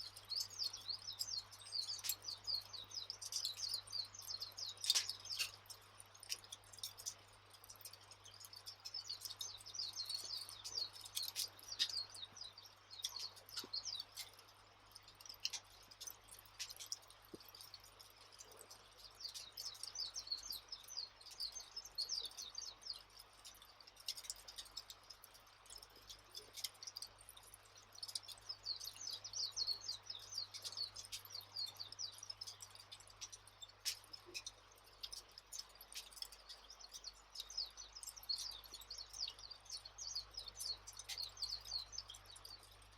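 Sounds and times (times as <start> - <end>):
small birds twittering: 0.0 - 42.9.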